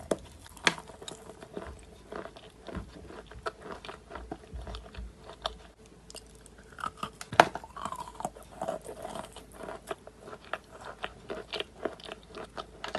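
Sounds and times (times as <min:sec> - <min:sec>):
crunchy chewing: 0:00.0 - 0:12.9.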